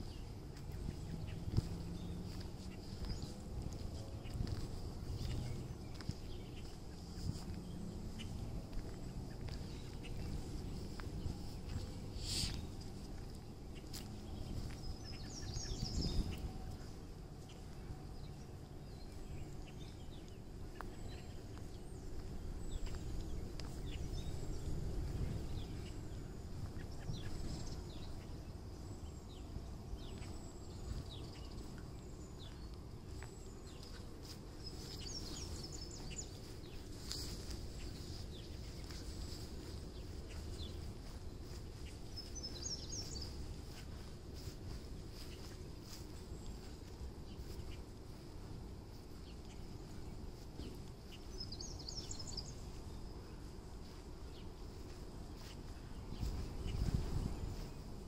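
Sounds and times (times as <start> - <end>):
birds chirping: 0.0 - 58.0
low background rumble: 0.0 - 58.0.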